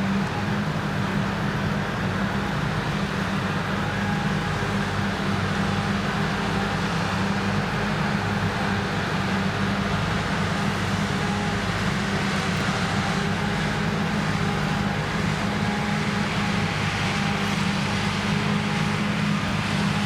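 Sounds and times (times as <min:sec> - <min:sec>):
diesel harvester running under load: 0:00.0 - 0:20.0.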